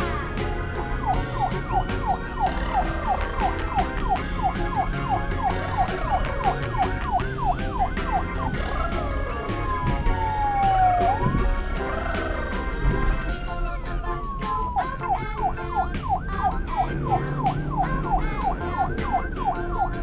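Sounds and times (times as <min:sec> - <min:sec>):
cartoon siren whoops: 0:00.7 - 0:20.0.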